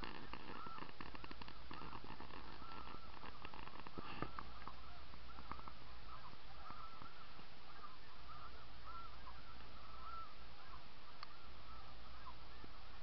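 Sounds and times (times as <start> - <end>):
geese yelping calls: 0.0 - 13.0.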